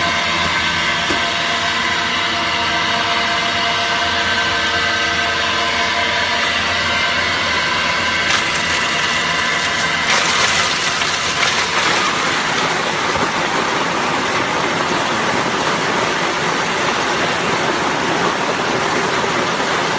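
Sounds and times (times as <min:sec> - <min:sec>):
grinding machine whine: 0:00.0 - 0:19.9.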